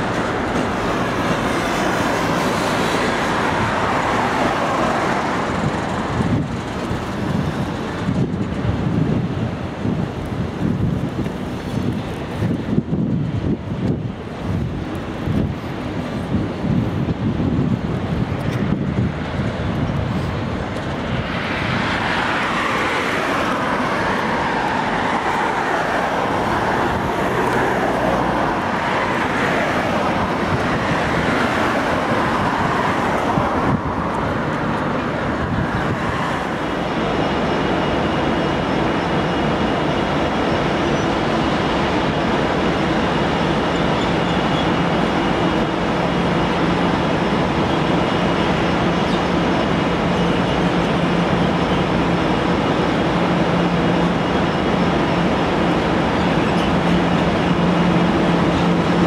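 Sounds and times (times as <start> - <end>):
train mechanical noise: 0.0 - 59.0.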